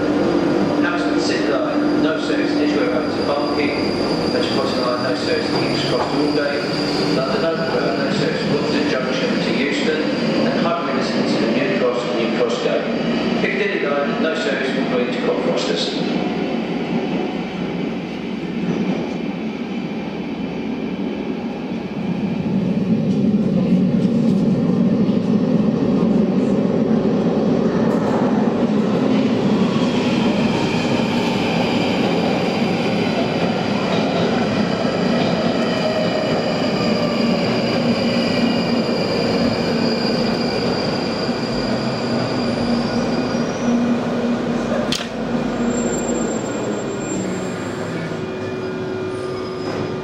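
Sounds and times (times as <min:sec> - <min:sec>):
train rumbling through tunnel: 0:00.0 - 0:50.0.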